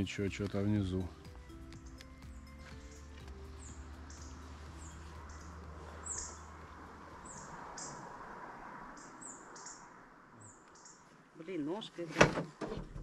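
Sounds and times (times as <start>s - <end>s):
songbird chirping: 0.0s - 12.1s.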